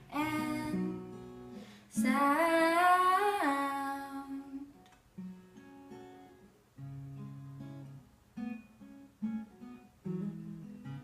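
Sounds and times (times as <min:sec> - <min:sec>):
acoustic guitar strummed chords: 0:00.0 - 0:04.0, 0:05.1 - 0:11.0.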